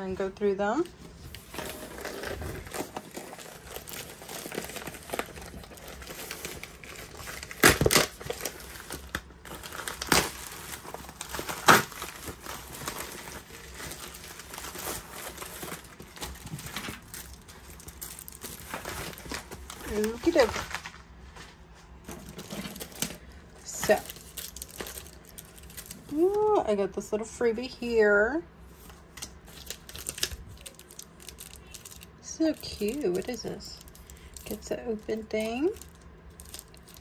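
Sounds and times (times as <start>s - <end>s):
plastic bag crinkling: 1.2s - 26.6s, 28.7s - 37.0s.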